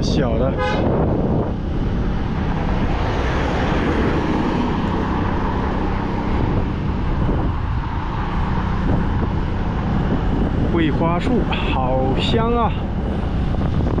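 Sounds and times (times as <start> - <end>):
motorcycle running: 0.0 - 14.0
wind on microphone: 0.0 - 14.0.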